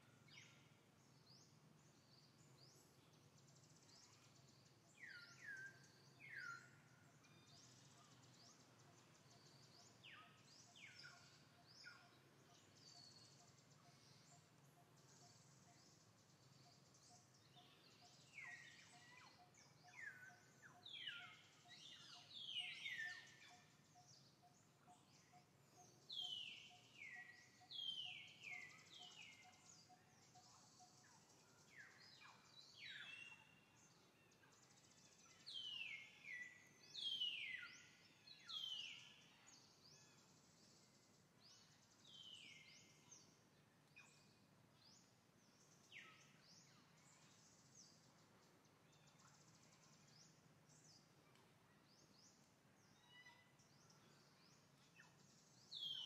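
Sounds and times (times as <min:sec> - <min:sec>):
low background noise: 0:00.0 - 0:56.0.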